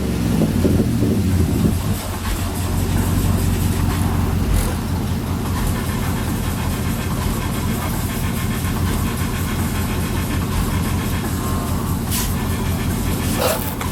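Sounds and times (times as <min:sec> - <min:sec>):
car engine running through exhaust: 0:00.0 - 0:13.9.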